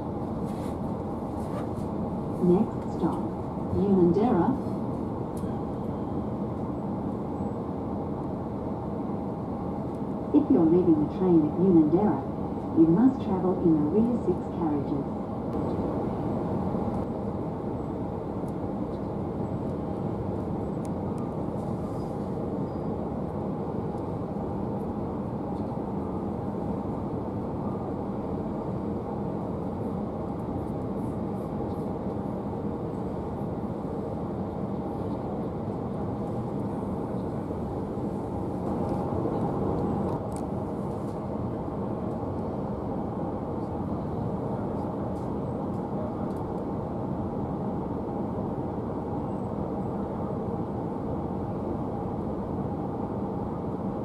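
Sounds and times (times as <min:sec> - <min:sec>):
train carriage rumbling: 0:00.0 - 0:54.0.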